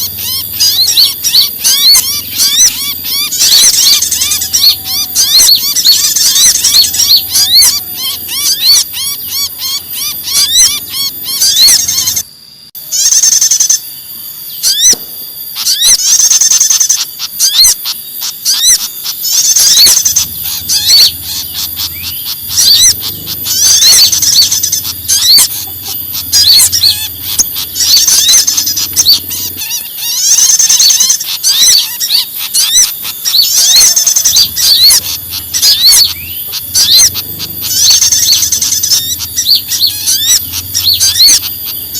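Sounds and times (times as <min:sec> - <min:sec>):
small birds chirping and chattering: 0:00.0 - 0:41.9.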